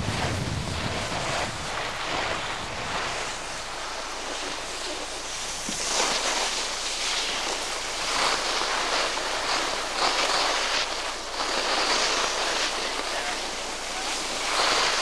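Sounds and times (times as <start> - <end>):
skis scraping over snow: 0.0 - 15.0
wind on microphone: 0.0 - 15.0.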